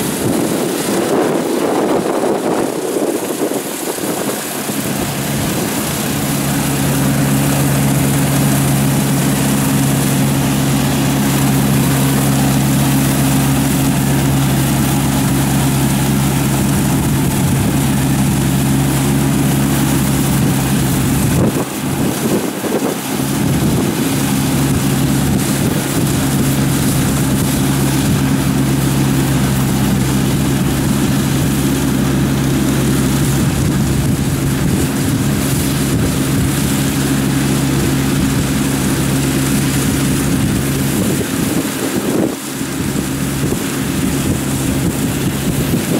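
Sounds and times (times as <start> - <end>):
combine harvester diesel engine: 0.0 - 45.9.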